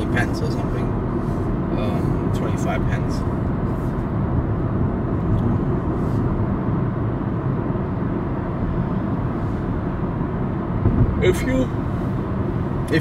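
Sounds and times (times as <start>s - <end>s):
car road noise inside cabin: 0.0s - 13.0s.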